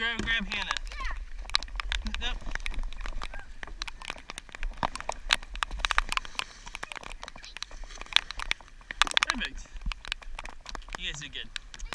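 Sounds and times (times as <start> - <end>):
raindrops pattering: 0.0 - 11.9.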